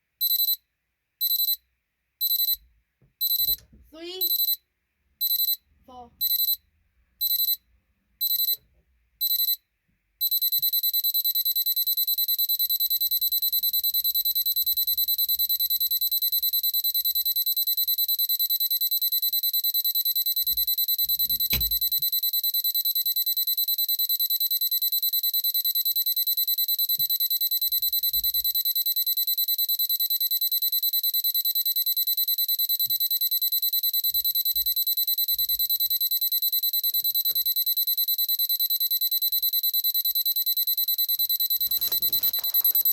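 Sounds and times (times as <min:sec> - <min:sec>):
alarm clock beeping: 0:00.2 - 0:00.6, 0:01.2 - 0:01.6, 0:02.2 - 0:02.6, 0:03.2 - 0:04.6, 0:05.2 - 0:05.6, 0:06.2 - 0:06.6, 0:07.2 - 0:07.6, 0:08.2 - 0:08.6, 0:09.2 - 0:09.6, 0:10.2 - 0:42.9.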